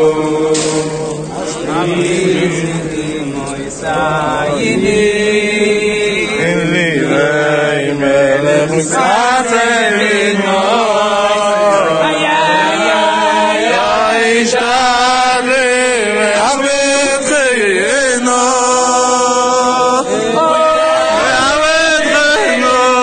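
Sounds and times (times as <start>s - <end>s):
man chanting a religious melody: 0.0s - 23.0s.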